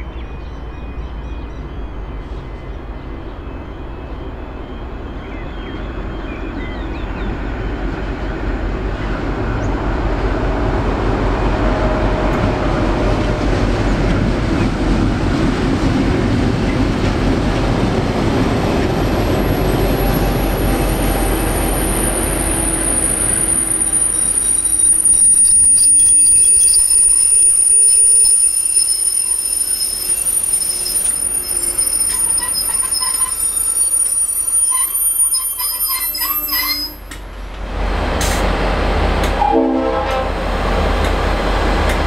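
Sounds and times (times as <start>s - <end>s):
diesel locomotive engine drone: 0.0s - 42.0s
train carriages rolling on rails: 5.1s - 42.0s.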